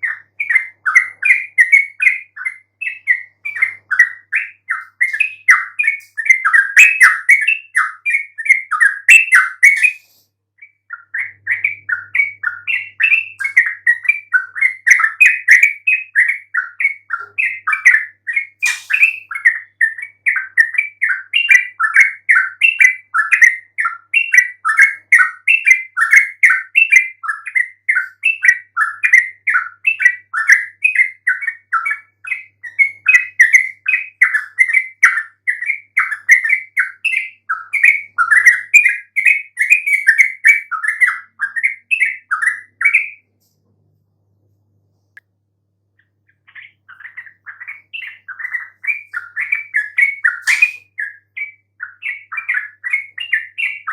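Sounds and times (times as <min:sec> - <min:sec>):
bird singing chattering notes: 0:00.0 - 0:10.0, 0:10.7 - 0:43.1, 0:46.0 - 0:53.9.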